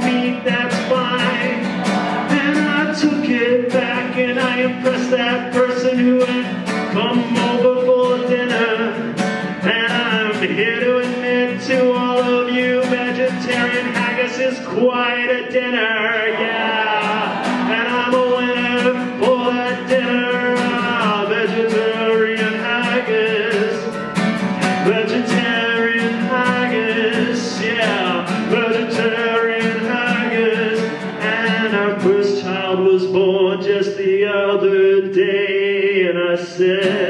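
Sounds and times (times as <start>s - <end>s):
man singing: 0.0s - 37.0s
strummed guitar: 0.0s - 37.0s.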